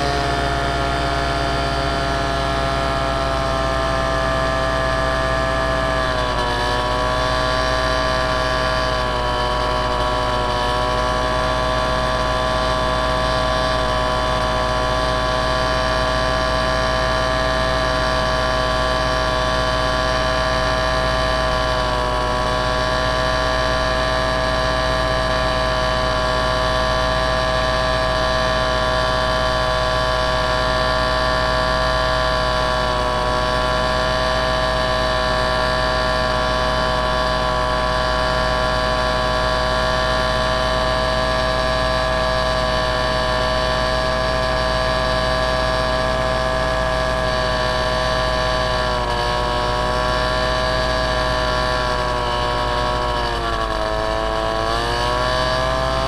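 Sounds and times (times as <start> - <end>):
small aircraft engine whine: 0.0 - 56.0.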